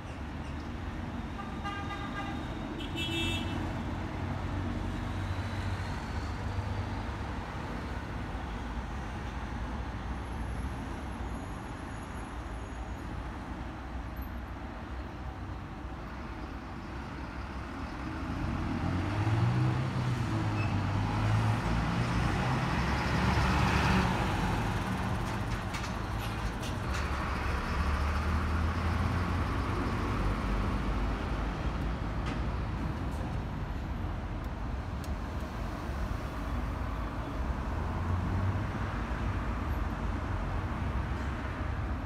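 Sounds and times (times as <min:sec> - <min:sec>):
low rumble of road traffic: 0:00.0 - 0:42.0.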